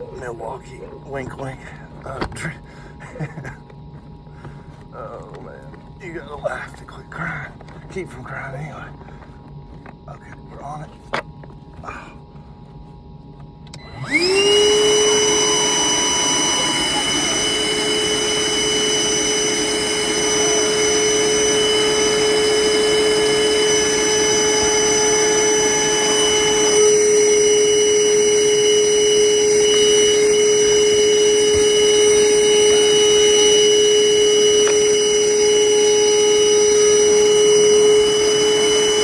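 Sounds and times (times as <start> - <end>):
shop vacuum running with high whine: 0.0 - 39.0.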